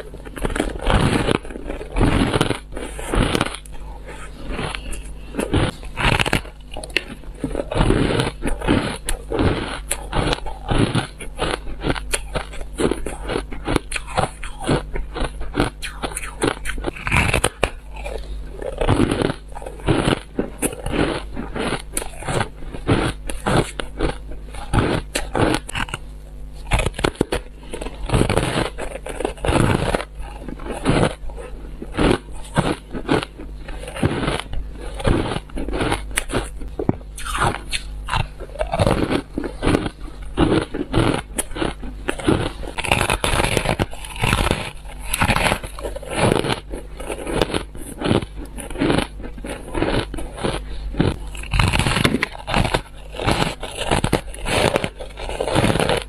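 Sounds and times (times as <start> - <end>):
ice being bitten and chewed: 0.0 - 56.0.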